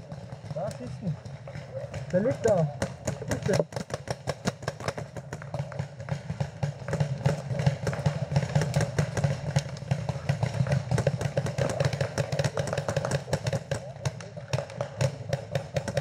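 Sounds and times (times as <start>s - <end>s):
paintball markers firing: 0.0s - 16.0s.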